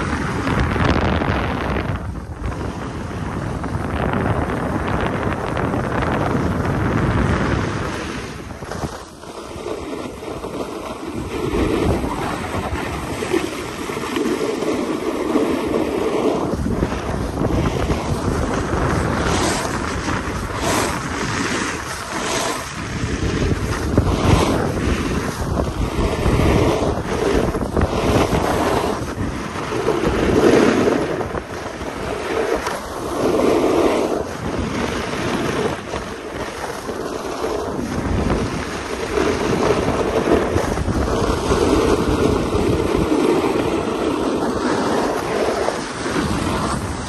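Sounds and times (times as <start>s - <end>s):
snowboard edges scraping snow: 0.0s - 47.0s
wind buffeting microphone: 0.0s - 47.0s.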